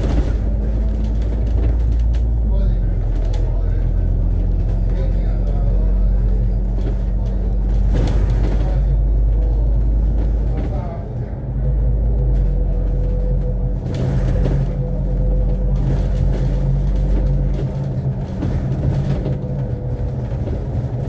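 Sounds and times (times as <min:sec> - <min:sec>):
bus engine droning: 0:00.0 - 0:21.0.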